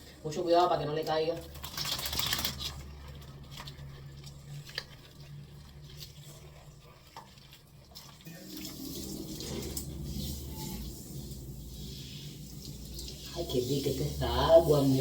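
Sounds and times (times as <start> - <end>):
water running and splashing: 0.6 - 15.0.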